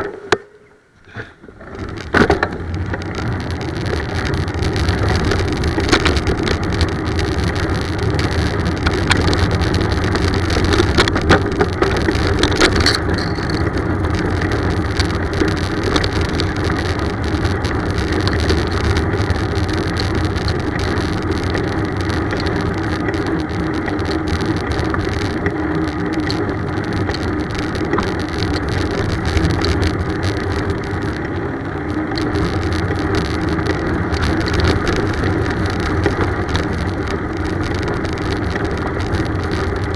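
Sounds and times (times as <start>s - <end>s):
road and tyre noise: 0.0s - 39.9s
bicycle clicks and rattles: 1.1s - 39.9s.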